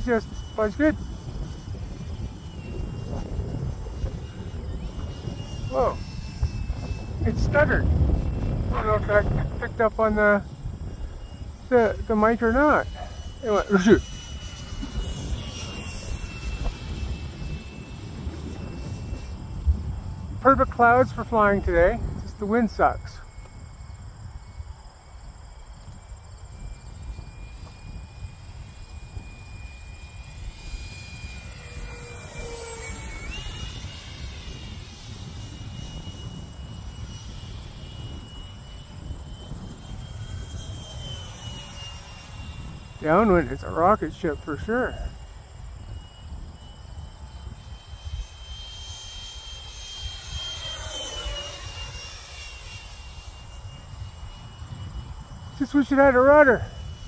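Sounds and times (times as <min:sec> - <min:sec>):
model jet fan whining: 0:00.0 - 0:57.0
wind rumble on microphone: 0:00.0 - 0:57.0.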